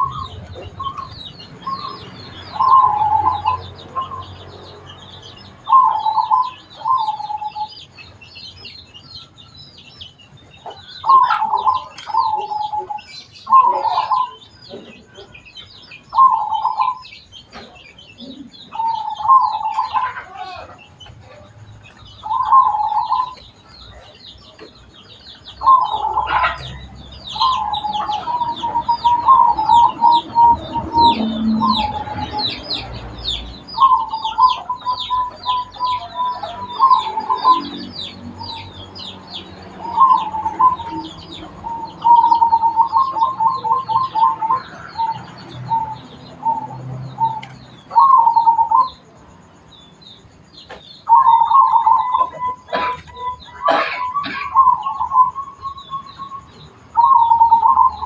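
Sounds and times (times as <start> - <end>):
doves cooing: 0.0 - 8.0, 10.6 - 49.0, 51.0 - 58.0
small birds chirping: 0.0 - 58.0.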